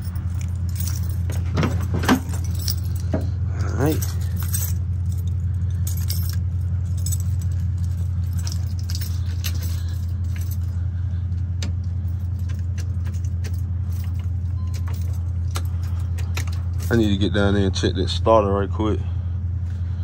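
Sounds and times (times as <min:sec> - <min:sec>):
keys jangling: 0:00.0 - 0:17.4
car engine idling: 0:00.0 - 0:20.0.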